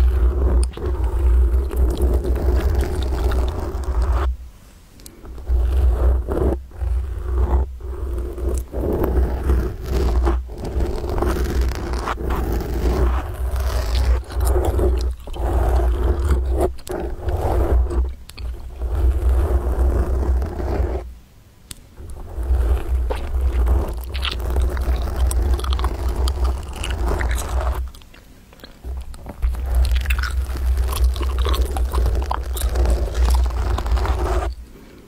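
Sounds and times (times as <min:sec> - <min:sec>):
fingers scratching a microphone: 0:00.0 - 0:04.4, 0:05.1 - 0:21.1, 0:21.7 - 0:34.6.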